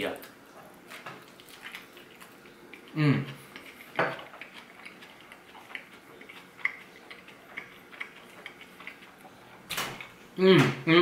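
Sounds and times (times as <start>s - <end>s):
soft wet chewing: 0.2s - 10.4s.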